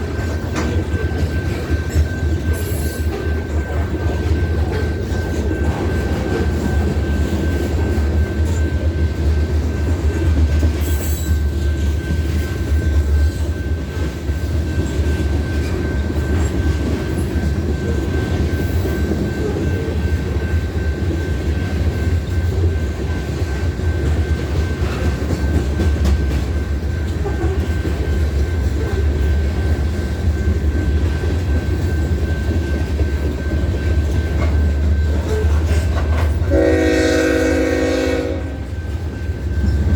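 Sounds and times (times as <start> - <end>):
train heavy low rumble: 0.0 - 39.9.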